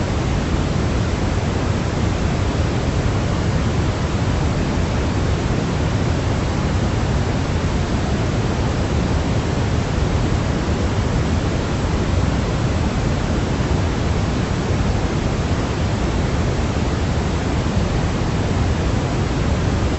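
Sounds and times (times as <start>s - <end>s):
rumbling white noise hiss: 0.0s - 19.9s.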